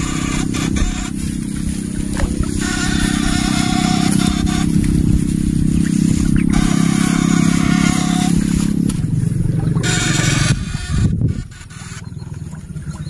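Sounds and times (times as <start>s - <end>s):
electric fish shocker buzzing: 0.0s - 13.0s
high whine: 0.0s - 13.0s.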